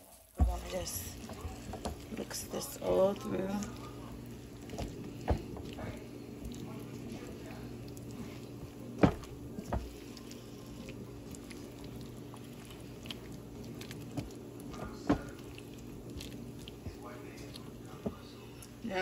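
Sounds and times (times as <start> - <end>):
spatula stirring food squishing: 0.0 - 19.0
steady low hum: 0.3 - 19.0.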